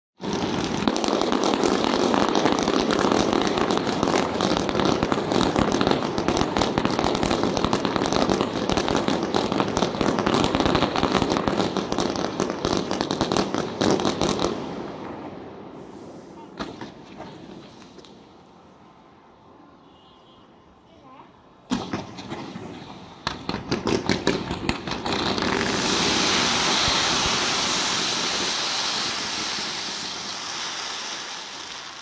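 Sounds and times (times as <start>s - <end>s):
firework bangs: 0.2s - 18.4s, 21.7s - 32.0s
firework launches: 0.2s - 18.4s, 21.7s - 32.0s
firework crackling: 0.2s - 18.5s, 21.7s - 32.0s.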